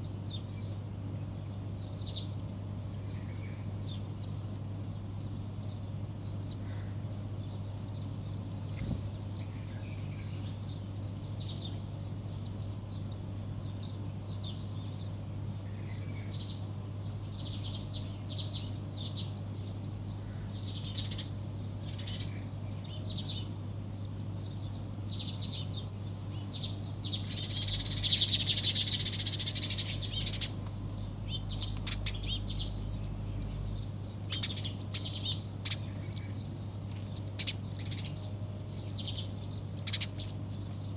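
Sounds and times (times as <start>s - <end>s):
birds chirping: 0.0s - 40.9s
steady low hum: 0.0s - 40.9s.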